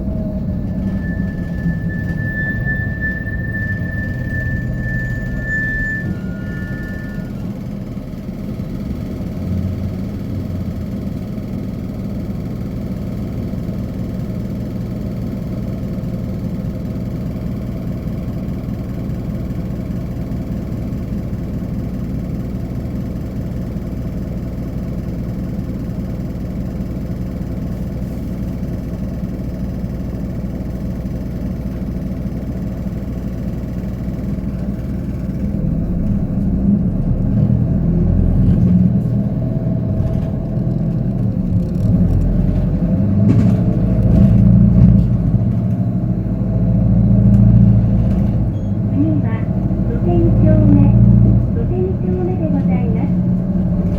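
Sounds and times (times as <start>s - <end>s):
bus diesel engine idling: 0.0s - 53.9s.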